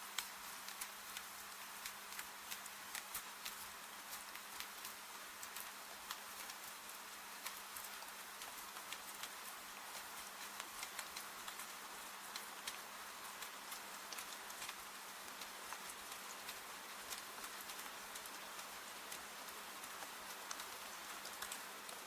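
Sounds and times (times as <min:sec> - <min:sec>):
steady rain hiss: 0:00.0 - 0:22.0
wood fire crackling: 0:00.1 - 0:22.0.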